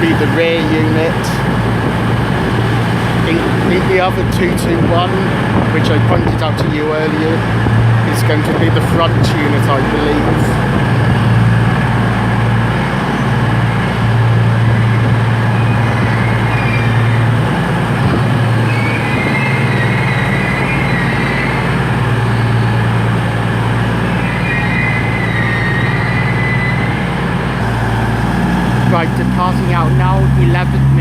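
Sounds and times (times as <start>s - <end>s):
wavering high tone: 0.0s - 5.9s, 8.3s - 30.7s
diesel engines idling: 0.0s - 31.0s.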